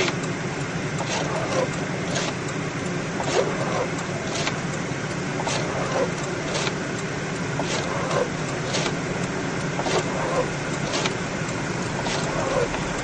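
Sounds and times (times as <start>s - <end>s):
car driving hum: 0.0s - 13.0s
windshield wipers sweeping: 0.0s - 13.0s.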